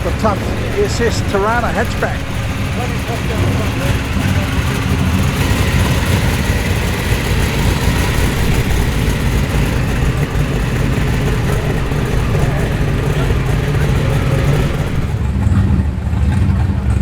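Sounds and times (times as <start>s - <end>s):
car engine idling: 0.0s - 16.3s.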